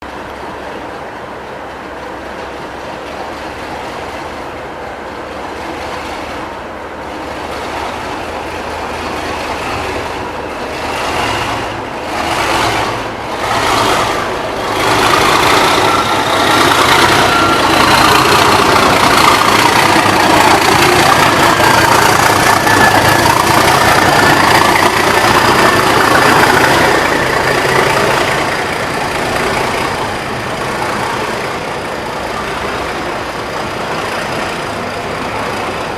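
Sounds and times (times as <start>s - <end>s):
diesel locomotives working: 0.0s - 35.9s.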